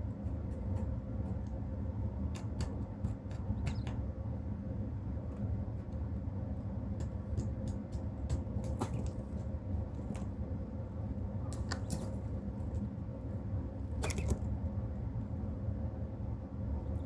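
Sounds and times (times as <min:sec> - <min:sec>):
low hum with faint tone: 0:00.0 - 0:17.0.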